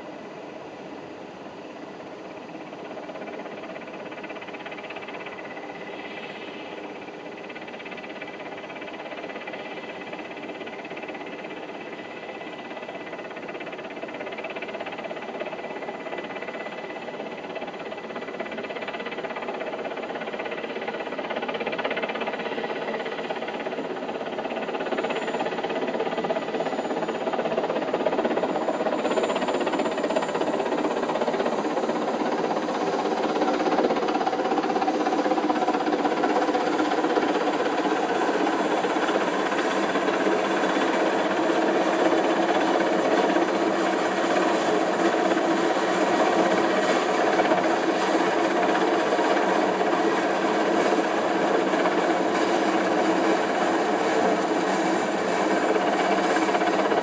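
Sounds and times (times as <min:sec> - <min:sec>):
helicopter running: 0:02.2 - 0:57.0.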